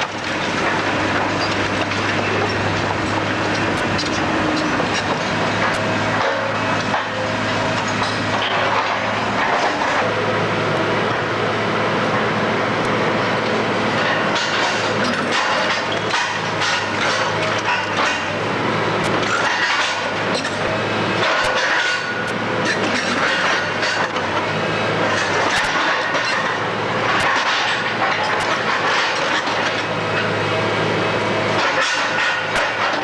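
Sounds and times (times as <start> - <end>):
demolition machine engine running: 0.0 - 33.0.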